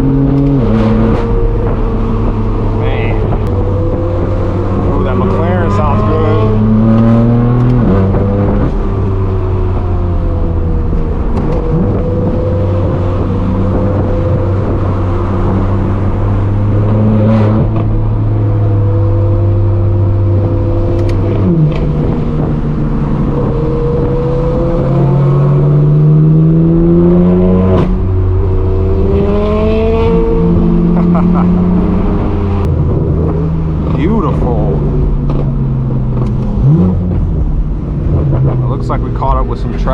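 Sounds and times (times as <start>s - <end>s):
car exhaust roaring: 0.0s - 39.9s.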